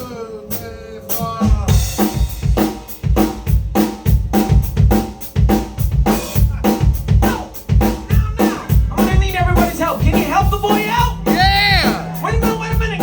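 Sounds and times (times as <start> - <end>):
drum kit groove: 0.0 - 13.0.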